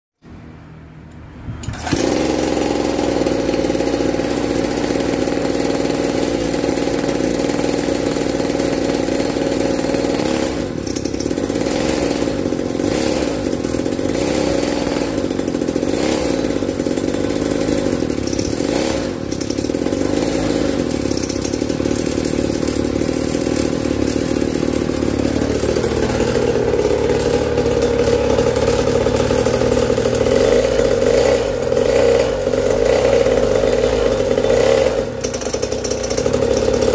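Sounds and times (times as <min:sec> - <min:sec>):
two-stroke scooter engine running: 0:01.6 - 0:36.9.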